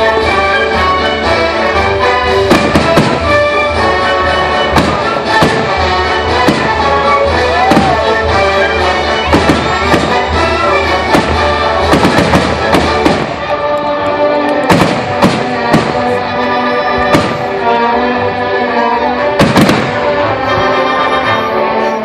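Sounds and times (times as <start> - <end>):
loud music: 0.0 - 22.0.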